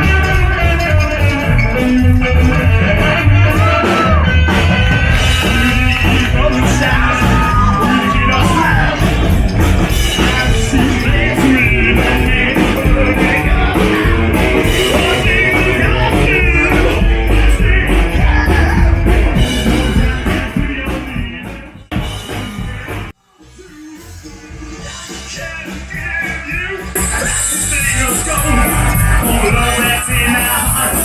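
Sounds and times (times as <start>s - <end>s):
live rock band playing: 0.0s - 23.2s, 23.9s - 31.0s.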